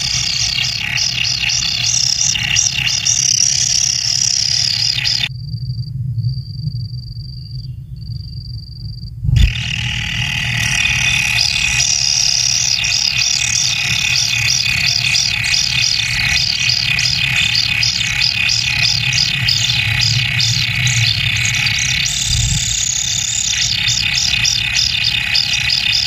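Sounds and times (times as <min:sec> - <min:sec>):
nestlings begging calls: 0:00.0 - 0:05.3, 0:09.4 - 0:26.0.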